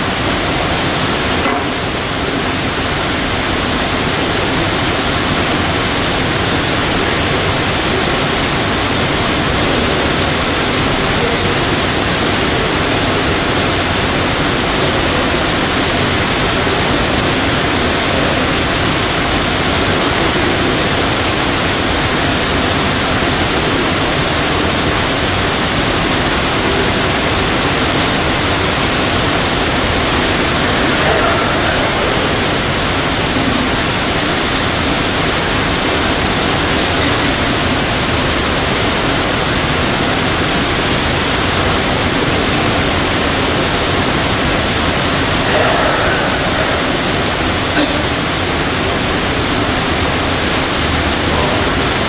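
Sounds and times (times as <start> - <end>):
loud rushing hiss: 0.0 - 52.0.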